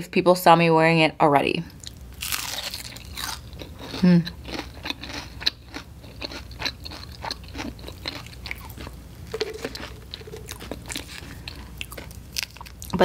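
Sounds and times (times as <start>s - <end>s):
crunching of crispy food: 1.8s - 13.0s.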